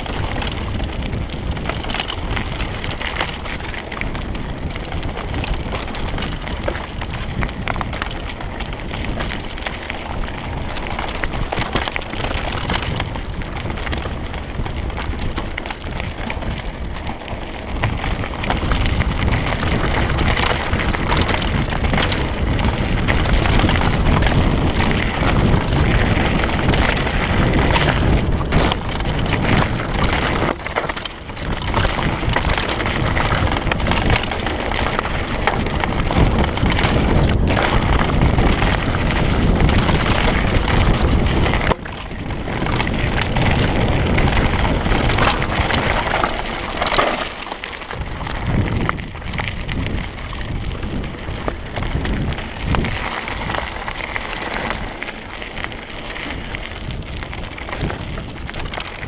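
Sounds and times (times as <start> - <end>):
bike rattling: 0.0 - 59.0
bike tyres crunching over stones: 0.0 - 59.0
wind on microphone: 0.0 - 59.0.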